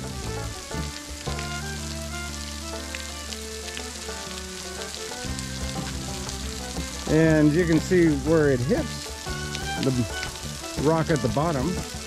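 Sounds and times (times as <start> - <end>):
soft background music chords: 0.0 - 12.0
water spattering off rock: 0.0 - 12.0.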